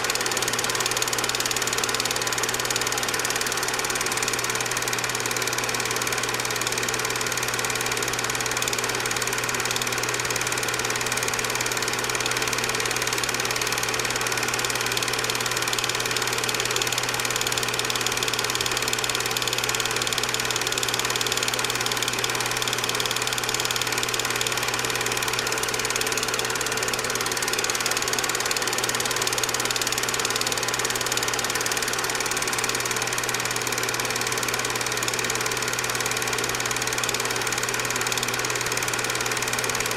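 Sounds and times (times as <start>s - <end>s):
film projector motor whirring: 0.0s - 39.9s.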